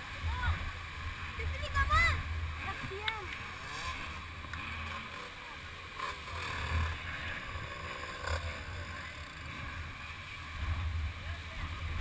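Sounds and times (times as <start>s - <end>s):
faint voices: 0.0s - 12.0s
motocross bikes idling: 0.0s - 12.0s.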